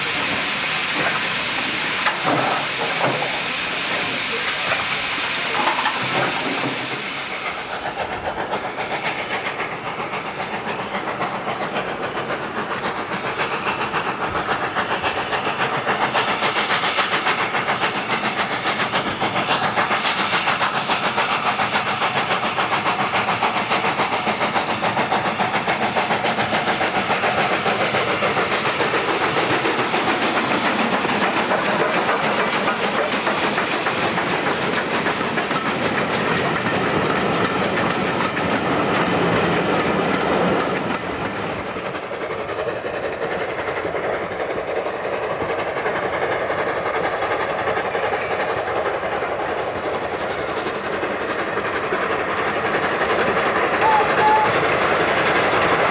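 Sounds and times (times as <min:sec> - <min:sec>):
steam locomotive exhaust beat: 0:00.0 - 0:55.9
steam locomotive hissing steam: 0:00.0 - 0:55.9.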